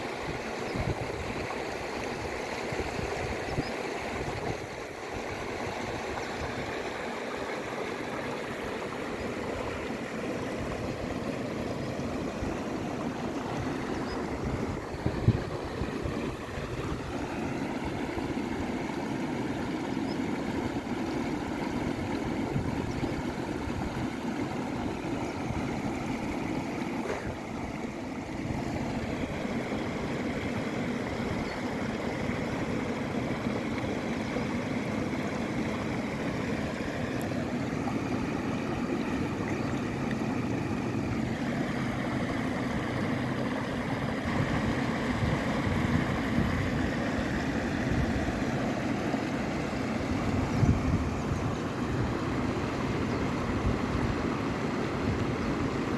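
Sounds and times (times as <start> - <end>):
mountain river rushing: 0.0 - 55.9.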